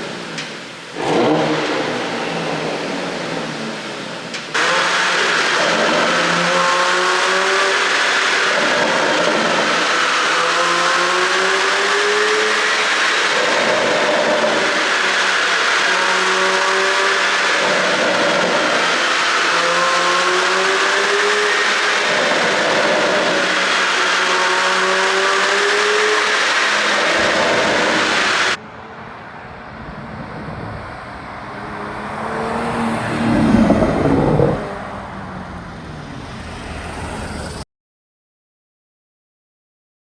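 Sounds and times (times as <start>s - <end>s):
car engine accelerating: 0.0s - 28.6s, 30.2s - 37.6s
engine revving: 0.9s - 28.6s, 30.8s - 37.6s.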